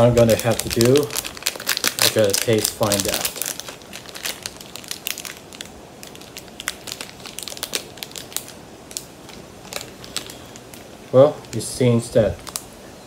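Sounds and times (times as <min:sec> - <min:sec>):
plastic wrapper crinkling: 0:00.0 - 0:12.8.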